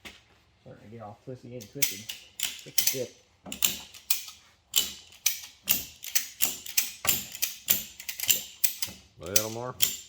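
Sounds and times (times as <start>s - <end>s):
ratchet strap clicking: 1.6s - 10.0s.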